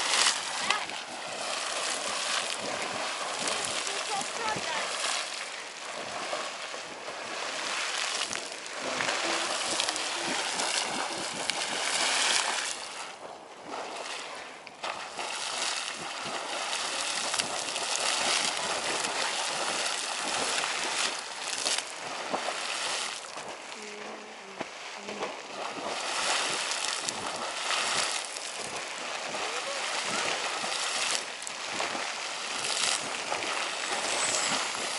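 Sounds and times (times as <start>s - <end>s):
geyser water splashing: 0.0s - 34.9s.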